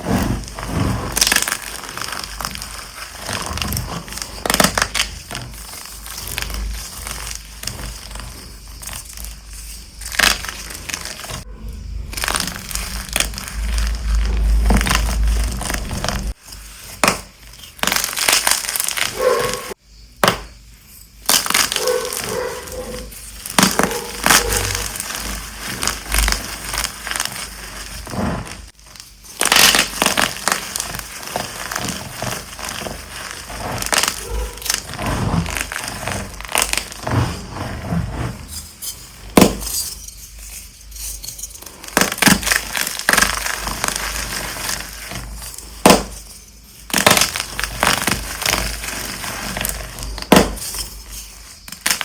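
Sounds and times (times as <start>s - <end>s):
chalk blocks being crushed: 0.0s - 52.0s.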